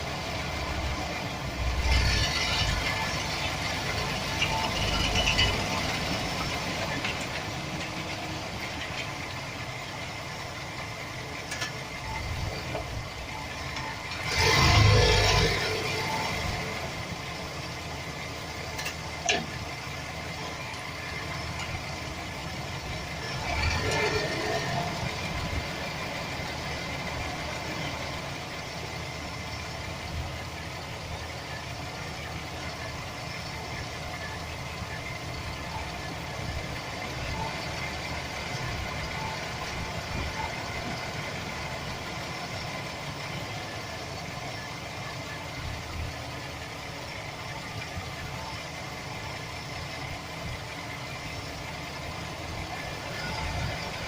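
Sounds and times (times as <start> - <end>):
van engine idling with rattle: 0.0 - 54.0.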